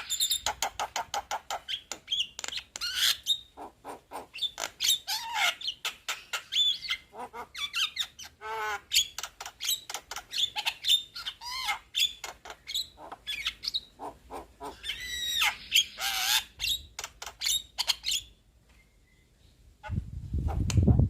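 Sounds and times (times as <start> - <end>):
myna bird chattering: 0.0 - 18.4.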